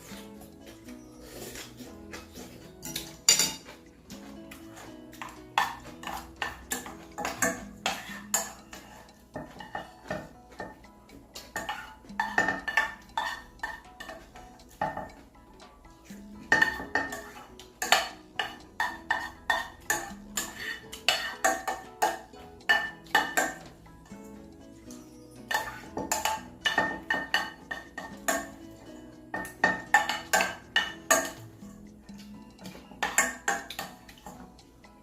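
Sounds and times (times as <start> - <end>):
utensils clinking in bowl: 0.0 - 35.0.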